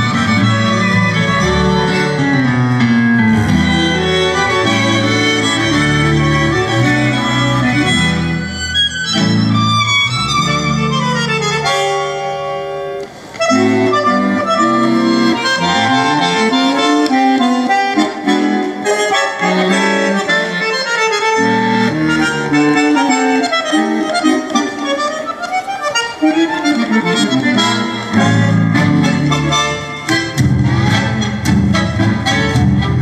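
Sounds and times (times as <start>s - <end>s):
tango music with bandoneon: 0.0s - 33.0s.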